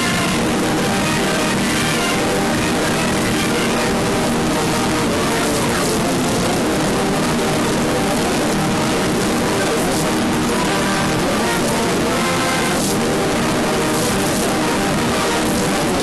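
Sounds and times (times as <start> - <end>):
processed radio static hiss: 0.0 - 16.0.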